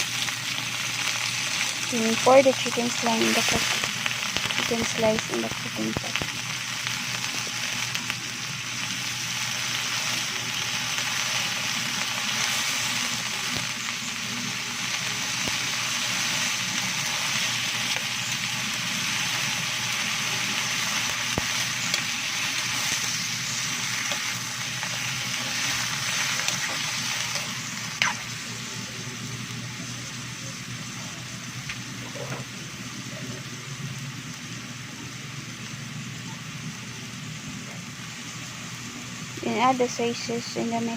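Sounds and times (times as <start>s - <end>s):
chicken sizzling in hot oil: 0.0s - 40.9s.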